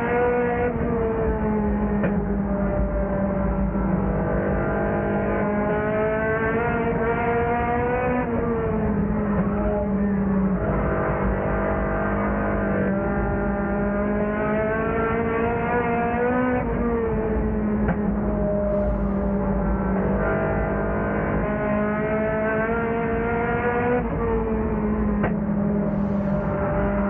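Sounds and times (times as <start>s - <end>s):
race car engine revving: 0.0s - 27.0s.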